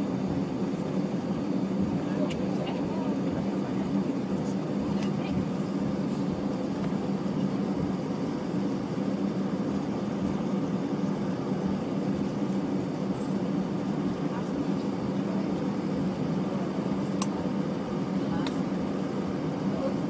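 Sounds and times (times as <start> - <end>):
airplane cabin drone: 0.0 - 20.0.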